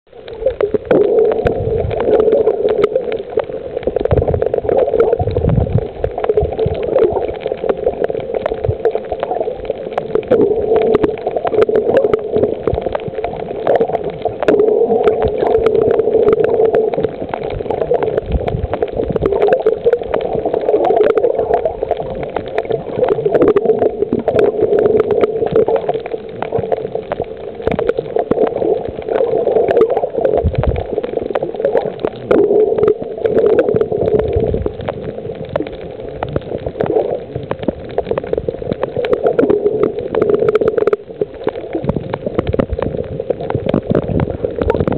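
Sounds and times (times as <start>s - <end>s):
muffled underwater sloshing: 0.1s - 44.9s
small clicks and pops: 0.1s - 44.9s.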